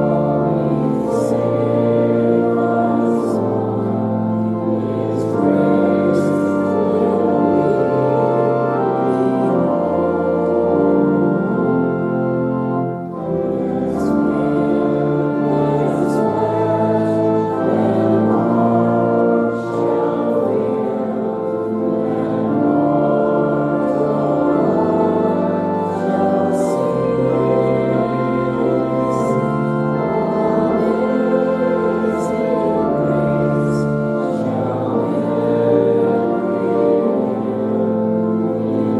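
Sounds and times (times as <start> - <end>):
organ accompaniment: 0.0 - 38.9
voices singing a hymn: 0.0 - 38.9.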